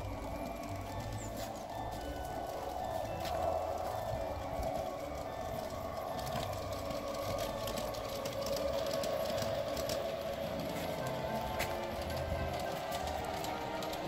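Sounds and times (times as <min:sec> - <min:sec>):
model train motor whirring: 0:00.0 - 0:14.0.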